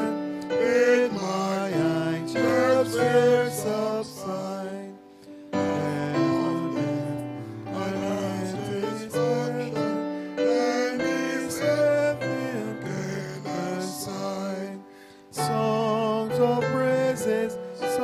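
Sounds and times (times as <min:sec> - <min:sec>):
congregation singing a hymn: 0:00.0 - 0:18.0
keyboard accompaniment: 0:00.0 - 0:18.0.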